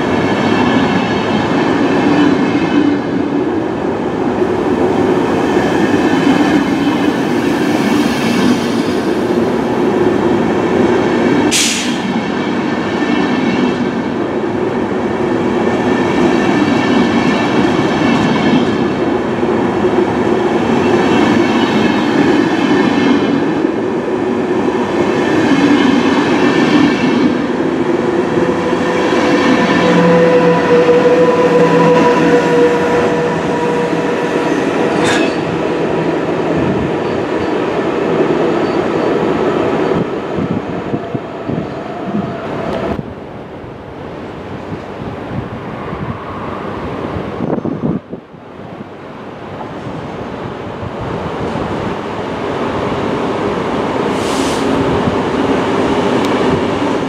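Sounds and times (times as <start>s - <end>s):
train coaches rumbling past: 0.0s - 57.0s.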